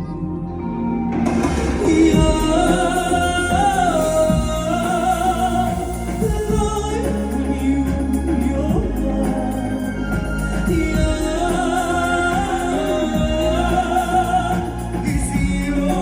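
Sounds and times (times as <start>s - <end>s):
person singing long notes: 1.8s - 16.0s.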